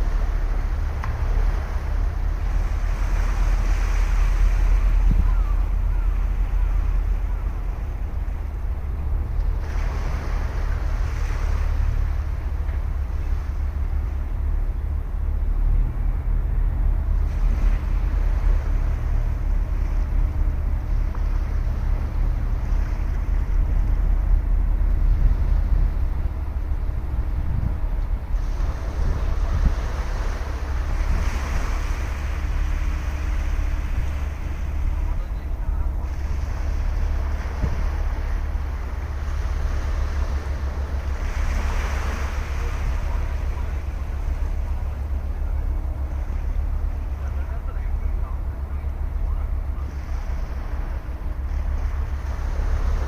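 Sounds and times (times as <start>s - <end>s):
ocean waves washing onto beach: 0.0s - 53.0s
wind rumbling on microphone: 0.0s - 53.0s.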